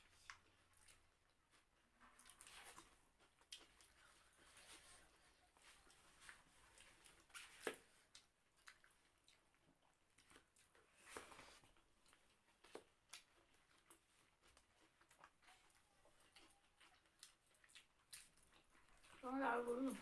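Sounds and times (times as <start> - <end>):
quiet chewing: 0.0 - 20.0.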